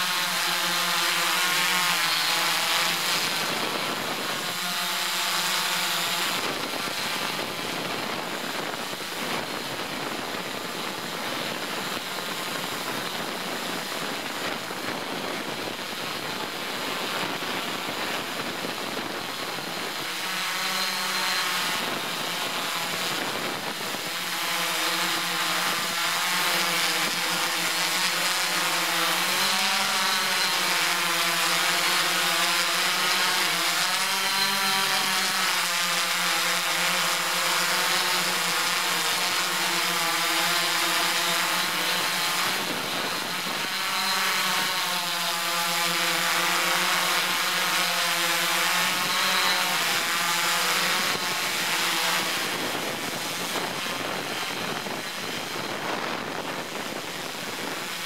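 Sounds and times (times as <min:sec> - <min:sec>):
drone motors humming: 0:00.0 - 0:58.0.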